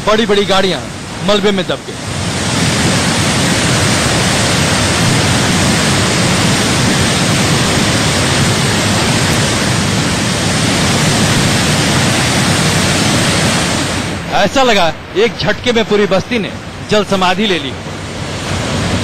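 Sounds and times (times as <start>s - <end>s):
rushing flood water: 0.0s - 19.0s.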